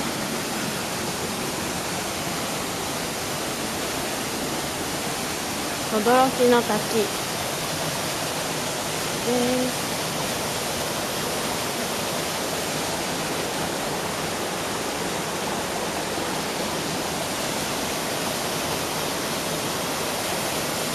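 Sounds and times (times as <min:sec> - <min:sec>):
stream running over rocks: 0:00.0 - 0:20.9
waterfall pouring into pool: 0:00.0 - 0:20.9.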